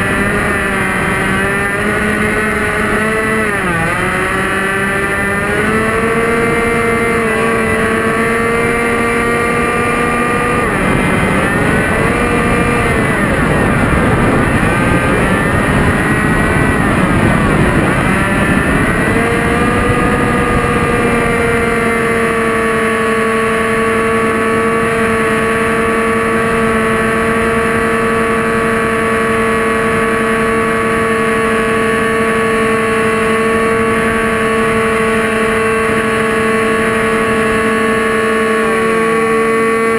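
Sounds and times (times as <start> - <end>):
electric motor and propeller whining: 0.0 - 39.9
rushing wind: 0.0 - 39.9.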